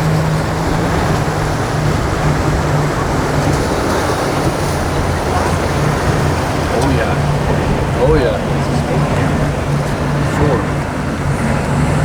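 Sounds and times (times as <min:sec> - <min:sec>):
boat engines humming: 0:00.0 - 0:12.0
waves washing: 0:00.0 - 0:12.0
wind: 0:00.0 - 0:12.0.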